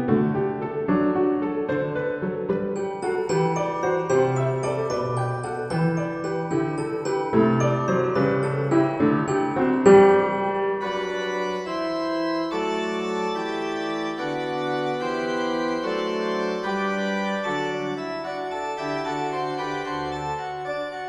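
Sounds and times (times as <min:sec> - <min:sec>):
organ-like keyboard chords: 0:02.8 - 0:21.0.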